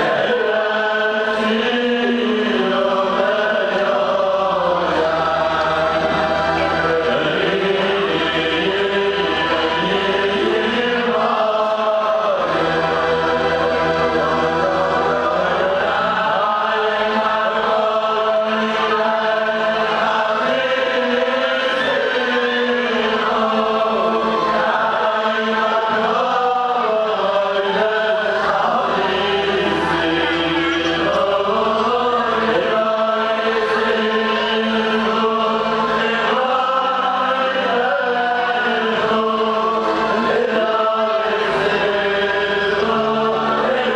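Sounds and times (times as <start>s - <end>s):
men singing together: 0.0s - 43.9s.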